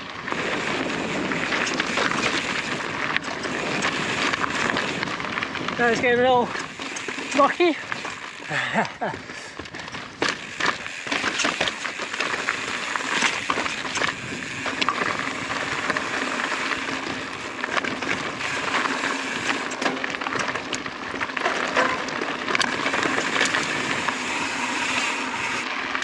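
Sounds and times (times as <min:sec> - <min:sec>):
bike knocks and rattles: 0:00.0 - 0:26.0
bike tyres crunching over rock: 0:00.0 - 0:26.0.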